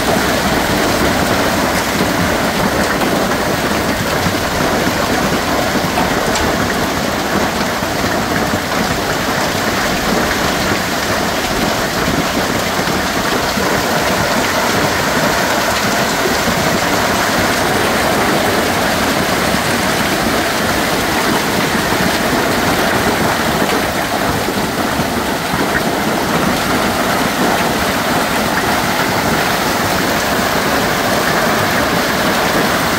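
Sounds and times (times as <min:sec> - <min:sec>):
hail and heavy rain pelting: 0:00.0 - 0:32.9.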